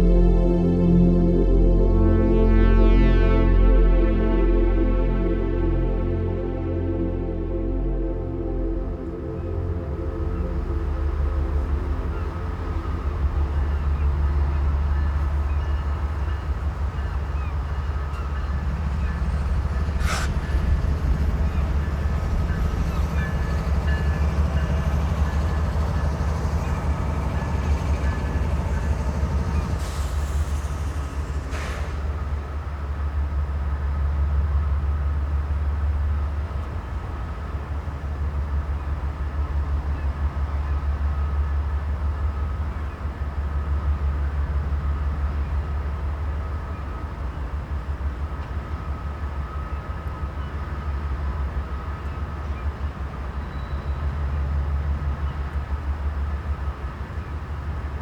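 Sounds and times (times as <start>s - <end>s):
train rumbling: 3.6s - 58.0s.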